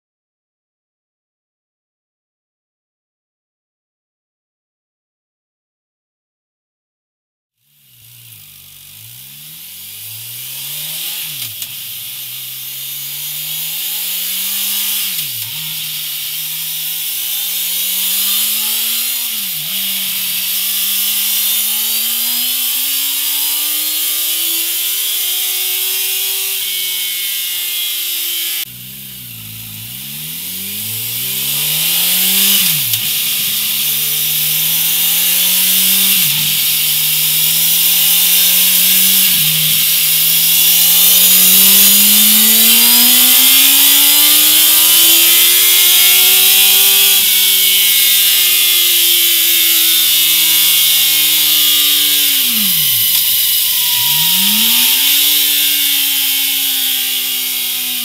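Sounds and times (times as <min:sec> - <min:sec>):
motorcycle engine revving: 0:07.6 - 0:58.0.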